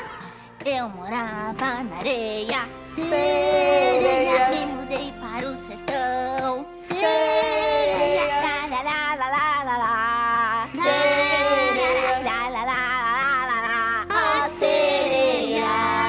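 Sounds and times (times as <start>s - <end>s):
woman singing: 0.0s - 15.1s
musical backing: 0.0s - 16.0s.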